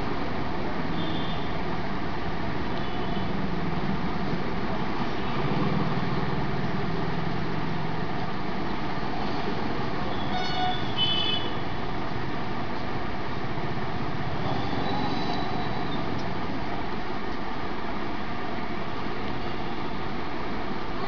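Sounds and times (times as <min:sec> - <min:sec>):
road traffic engine rumble: 0:00.0 - 0:21.0.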